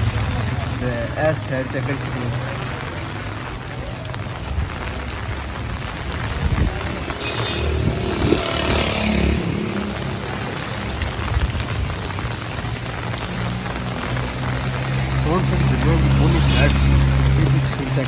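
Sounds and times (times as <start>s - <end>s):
heavy rain falling: 0.0s - 18.0s
vehicle tyres hissing on wet road: 0.0s - 18.0s.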